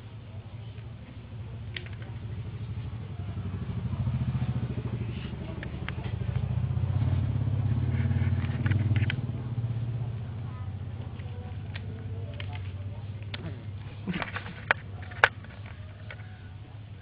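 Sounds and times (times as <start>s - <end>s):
cat purring: 1.6s - 15.7s.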